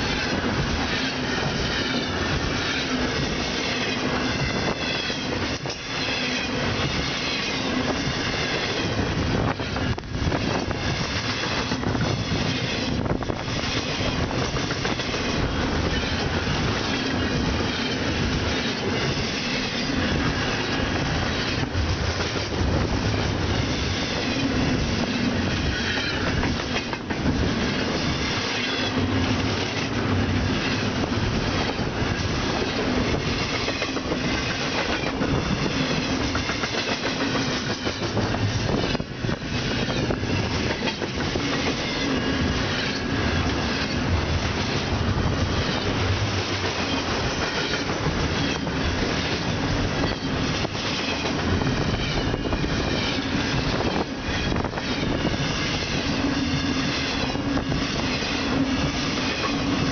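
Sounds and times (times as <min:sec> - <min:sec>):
train wheels clickety-clack: 0:00.0 - 0:59.9.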